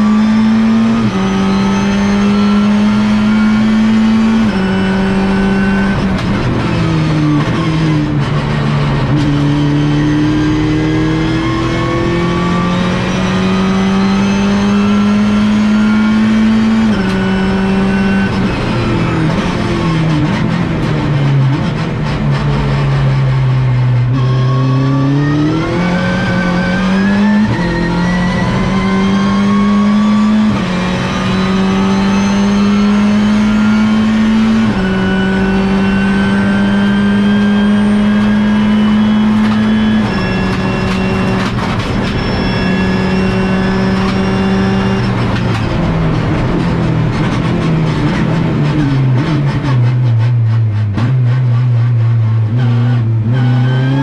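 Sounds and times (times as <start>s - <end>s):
race car engine under full load: 0.0s - 54.0s.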